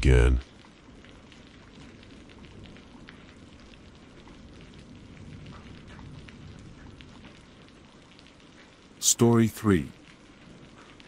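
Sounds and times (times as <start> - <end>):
raindrops ticking: 0.0 - 11.0
steady rain falling: 0.0 - 11.0.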